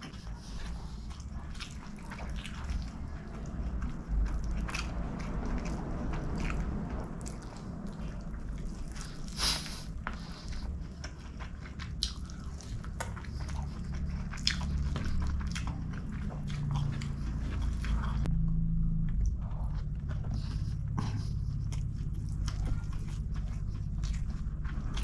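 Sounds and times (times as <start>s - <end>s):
wet chewing with mouth clicks: 0.0s - 25.0s.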